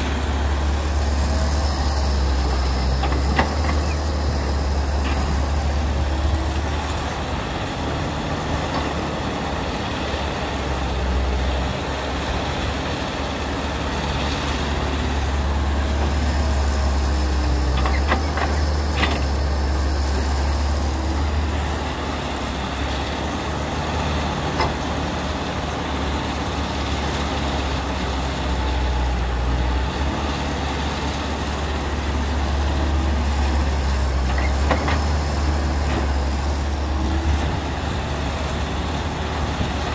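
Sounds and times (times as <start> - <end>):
excavator diesel engine under load: 0.0 - 39.9.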